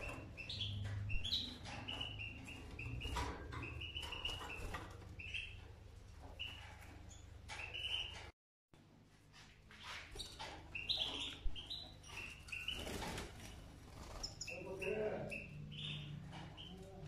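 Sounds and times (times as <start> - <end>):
canaries chirping: 0.0 - 8.3, 9.7 - 17.0.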